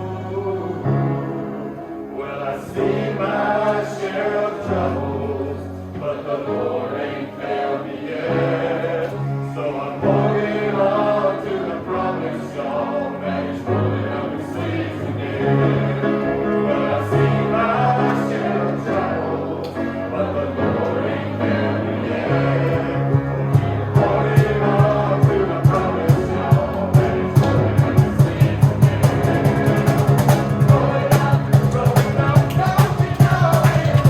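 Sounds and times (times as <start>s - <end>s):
choir singing in parts: 0.0s - 34.0s.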